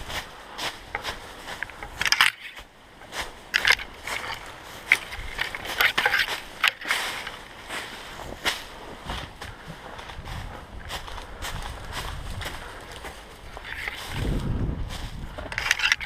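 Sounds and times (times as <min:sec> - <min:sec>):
crunching through dry undergrowth: 0:00.0 - 0:16.0.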